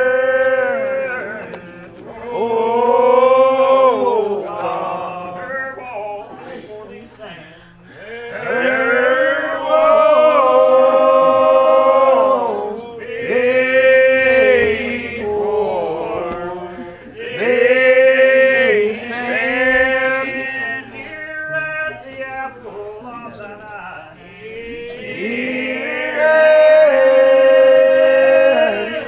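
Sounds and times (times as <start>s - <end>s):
congregation singing a hymn: 0.0s - 29.0s.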